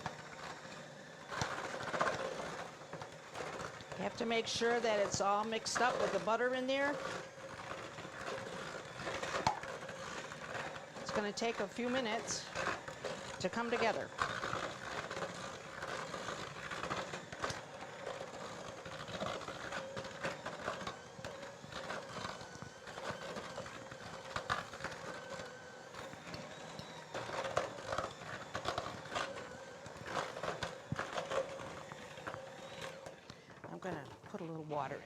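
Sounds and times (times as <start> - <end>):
electric mixer running: 0.0 - 35.0.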